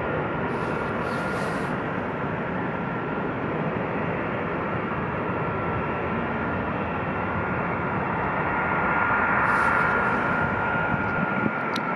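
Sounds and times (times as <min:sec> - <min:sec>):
distant jet taking off: 0:00.3 - 0:11.9.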